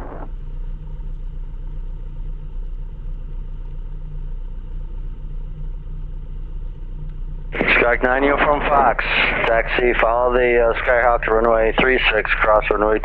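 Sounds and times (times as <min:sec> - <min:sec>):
aircraft engine low drone: 0:00.0 - 0:13.0.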